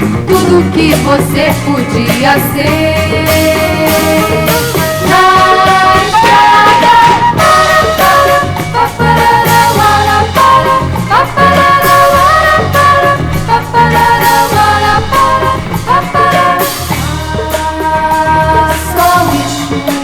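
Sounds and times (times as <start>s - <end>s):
popular song from vinyl record: 0.0s - 20.0s.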